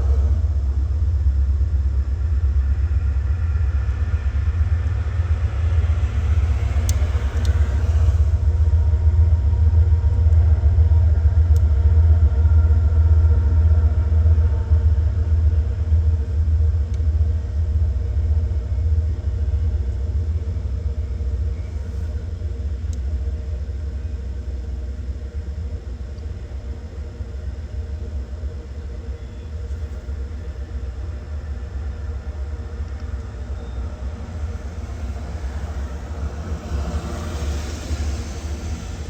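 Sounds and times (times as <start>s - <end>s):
diesel locomotive engines rumbling: 0.0s - 39.0s.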